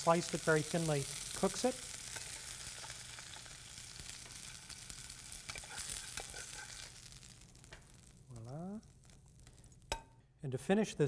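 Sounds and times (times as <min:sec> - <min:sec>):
fish sizzling in a frying pan: 0:00.0 - 0:10.0.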